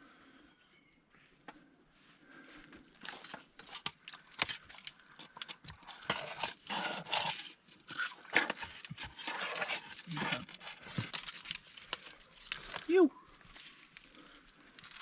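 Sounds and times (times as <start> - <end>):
crab clicks and crunchy rustling: 3.0 - 15.0.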